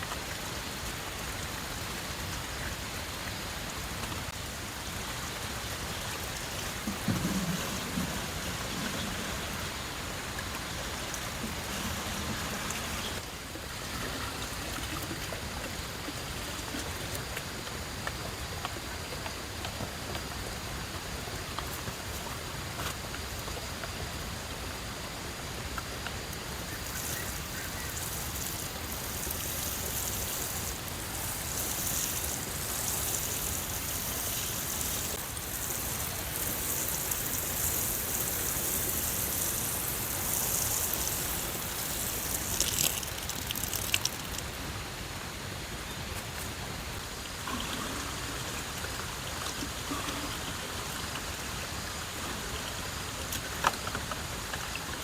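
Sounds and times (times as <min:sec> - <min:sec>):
running water hissing: 0:00.0 - 0:53.2.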